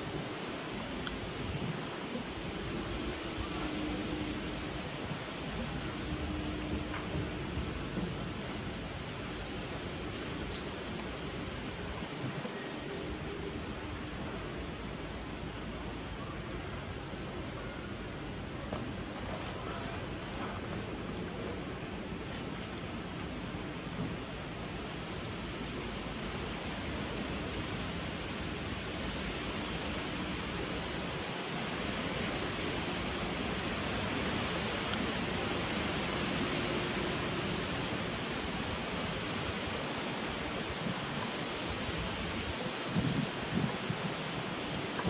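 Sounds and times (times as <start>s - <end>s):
high thin insect drone: 0.0s - 45.0s
steady hiss: 0.0s - 45.0s.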